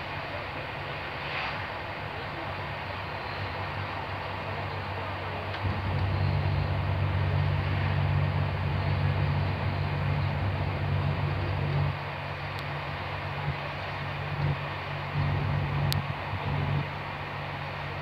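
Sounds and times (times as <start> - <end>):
train coach running rumble: 0.0 - 18.0.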